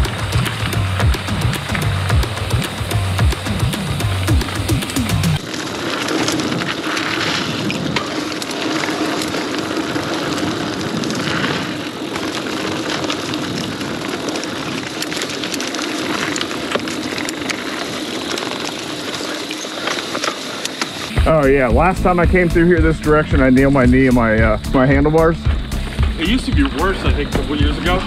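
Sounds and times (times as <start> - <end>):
bike clicks and rattles: 0.0 - 28.0
tyre and wind noise: 0.0 - 28.0.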